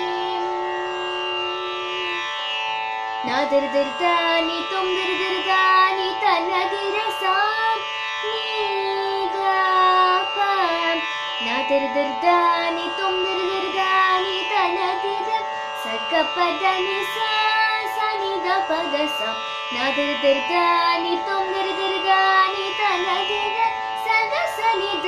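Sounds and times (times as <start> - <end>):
steady drone: 0.0 - 25.0
girl singing: 3.2 - 25.0.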